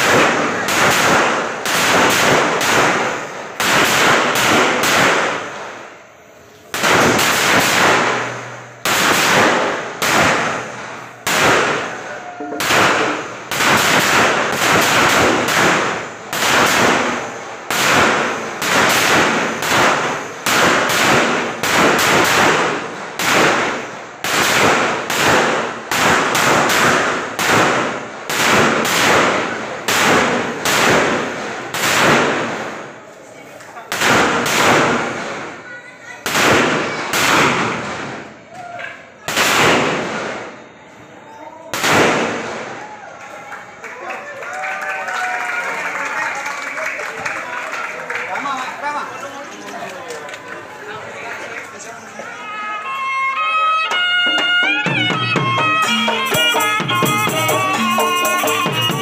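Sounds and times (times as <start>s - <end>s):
firecrackers banging: 0.0s - 59.0s.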